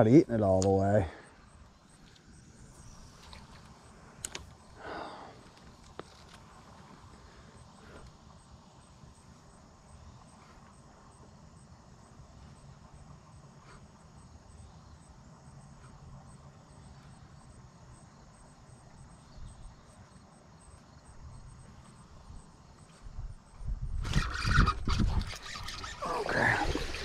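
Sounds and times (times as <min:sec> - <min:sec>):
insect chirping: 0:00.0 - 0:27.0.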